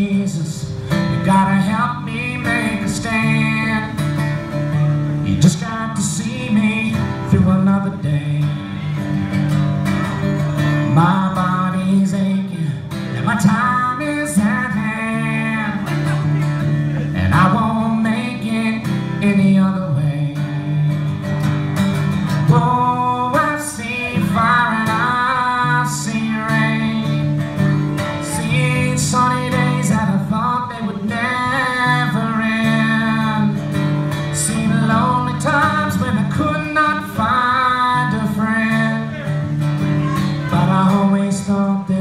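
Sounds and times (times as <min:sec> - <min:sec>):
man singing folk ballad: 0:00.0 - 0:42.0
strummed acoustic guitar: 0:00.0 - 0:42.0.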